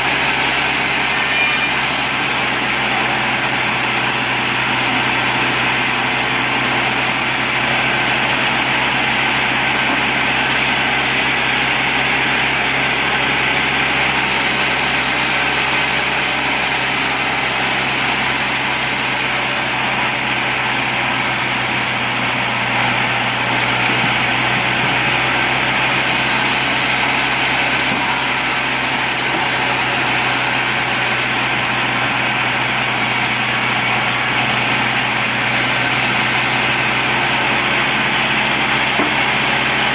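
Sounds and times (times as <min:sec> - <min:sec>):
bandsaw machinery droning: 0:00.0 - 0:39.9.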